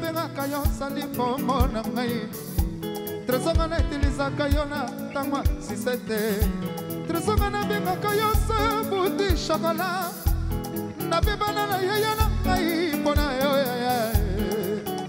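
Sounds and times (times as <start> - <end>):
band with pulsing bass: 0.0 - 15.0
person singing with vibrato: 0.0 - 15.0.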